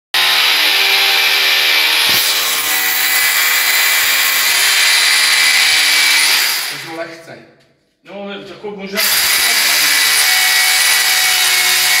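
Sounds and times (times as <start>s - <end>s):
power drill drilling into wall: 0.2s - 6.9s, 9.0s - 12.0s.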